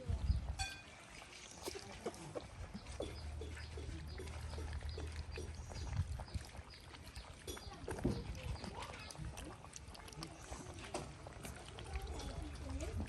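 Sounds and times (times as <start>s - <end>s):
puppies chewing and lapping: 0.0s - 13.0s.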